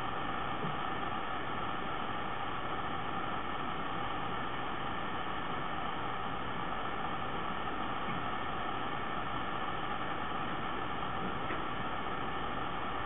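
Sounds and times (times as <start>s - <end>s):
faint humming: 0.0s - 13.0s.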